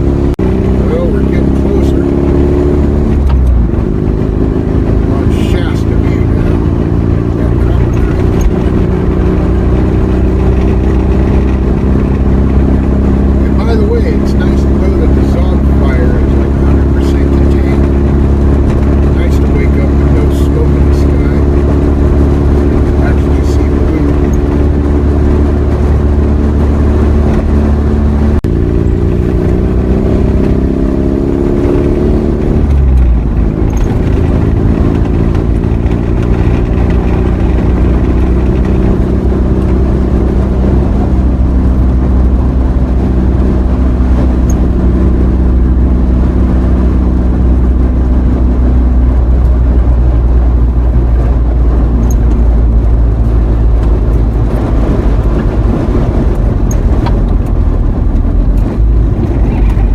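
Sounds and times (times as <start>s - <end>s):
road noise: 0.0s - 59.9s
vehicle engine accelerating: 0.0s - 59.9s.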